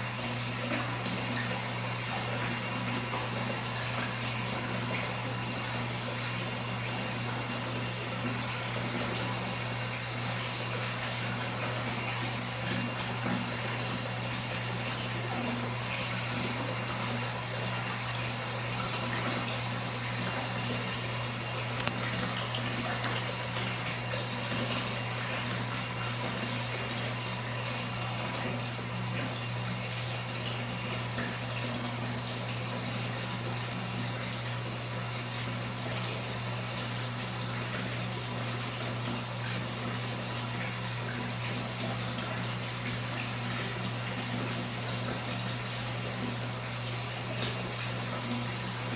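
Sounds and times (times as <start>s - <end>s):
tap water running: 0.0s - 48.9s.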